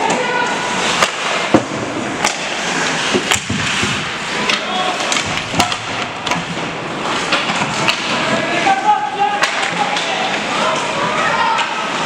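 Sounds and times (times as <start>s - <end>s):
hockey sticks and puck clacking: 0.0s - 12.0s
skates scraping on ice: 0.0s - 12.0s.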